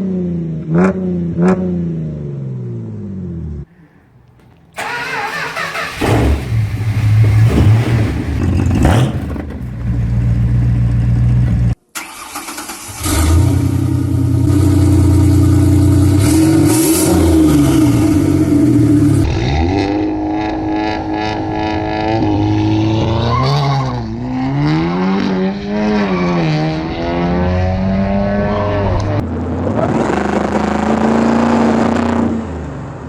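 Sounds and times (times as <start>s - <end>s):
car engine starting: 4.2s - 33.0s.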